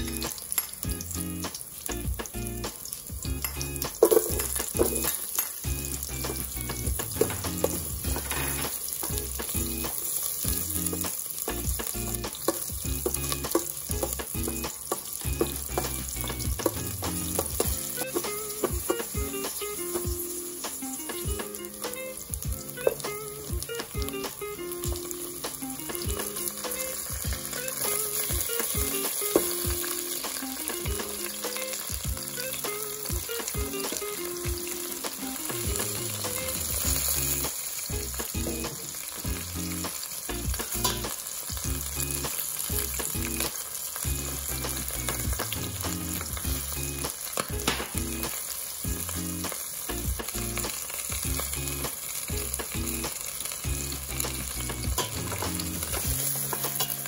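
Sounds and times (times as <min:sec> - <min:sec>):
food sizzling in a pot: 0:00.0 - 0:57.0.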